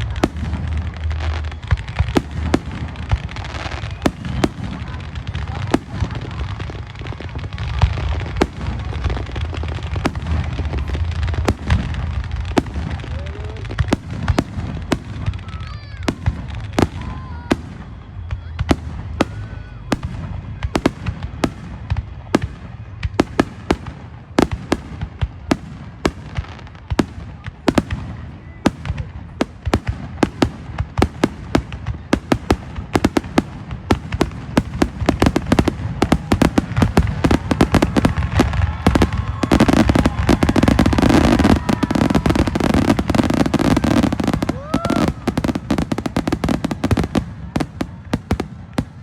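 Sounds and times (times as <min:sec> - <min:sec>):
fireworks bangs and cracks: 0:00.0 - 0:49.0.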